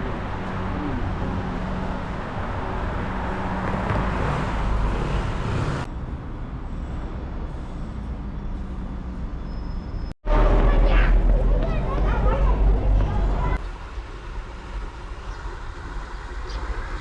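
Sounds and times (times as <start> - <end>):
city traffic noise: 0.0 - 17.0.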